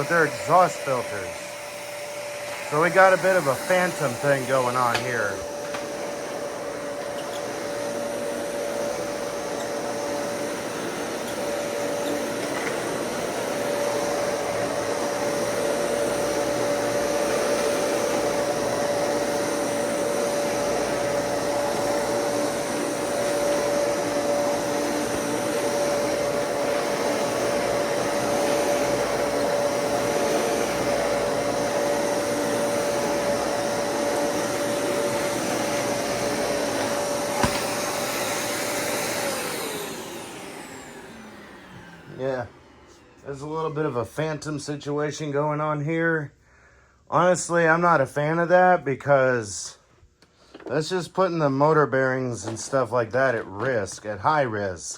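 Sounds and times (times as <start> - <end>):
vacuum cleaner running: 0.0 - 46.1.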